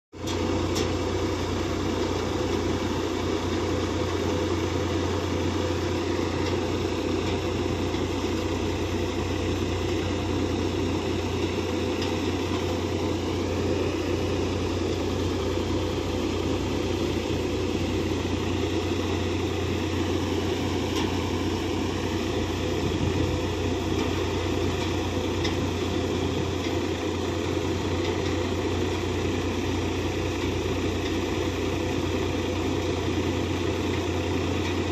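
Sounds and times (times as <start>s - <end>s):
threshing machinery noise: 0.2s - 34.9s
tractor engine humming: 0.2s - 34.9s.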